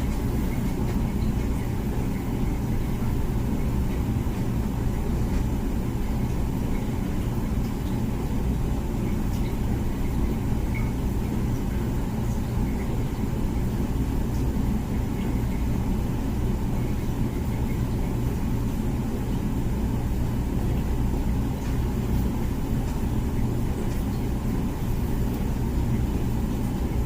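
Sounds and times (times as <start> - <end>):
dishwasher motor hum: 0.0 - 27.0.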